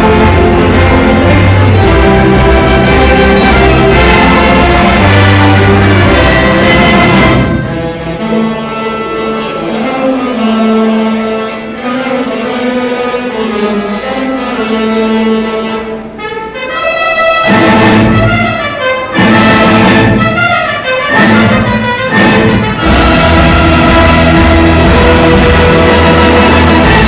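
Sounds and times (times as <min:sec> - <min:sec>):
orchestra and band playing: 0:00.0 - 0:27.0.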